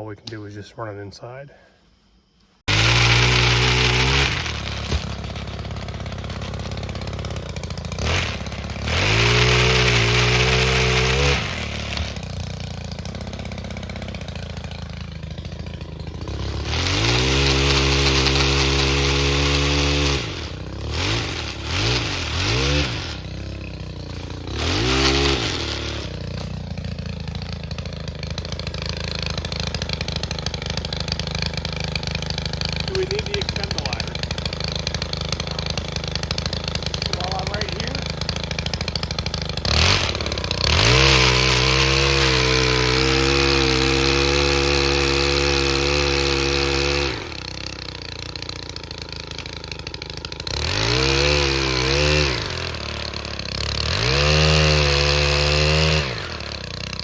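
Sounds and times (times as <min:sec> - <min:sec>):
engine idling and revving: 0:02.7 - 0:57.0.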